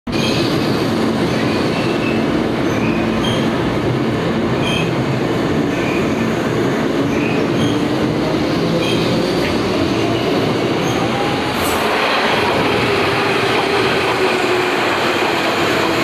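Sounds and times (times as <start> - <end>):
electric train running past: 0.2 - 16.0.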